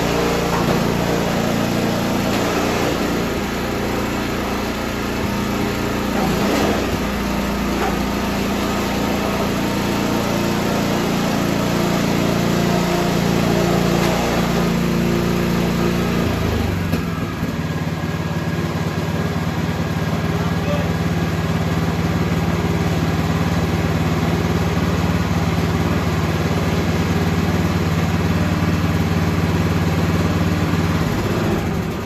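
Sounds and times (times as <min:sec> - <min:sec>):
snowblower engine running: 0:00.0 - 0:32.0.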